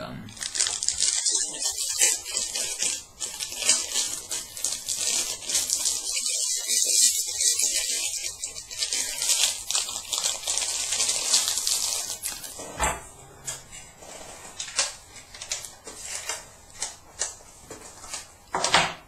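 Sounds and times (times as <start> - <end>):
plastic packaging crinkling: 0.3 - 12.6, 13.6 - 18.7.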